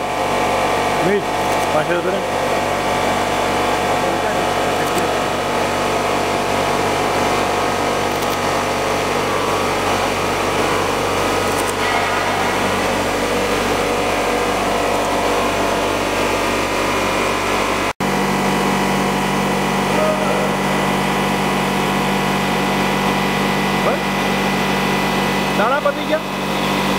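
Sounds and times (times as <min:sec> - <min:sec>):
loud steady machine hum: 0:00.0 - 0:26.9.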